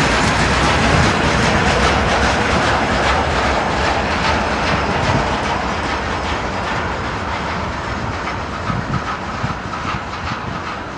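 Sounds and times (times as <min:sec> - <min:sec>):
train wheels clacking over rail joints: 0:00.0 - 0:10.9.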